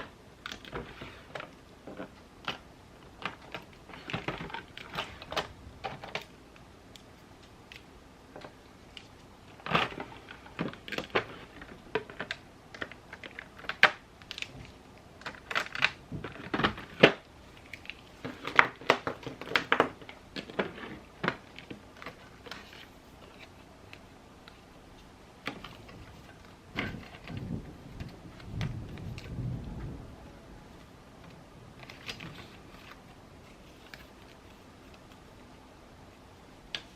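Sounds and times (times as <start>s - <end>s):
pens and paper handled on desk: 0.0s - 30.0s, 30.7s - 36.9s.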